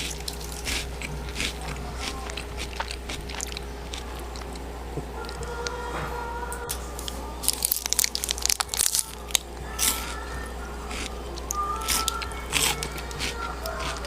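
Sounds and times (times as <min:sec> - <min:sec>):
chewing crunchy food: 0:00.0 - 0:05.9, 0:07.0 - 0:14.0.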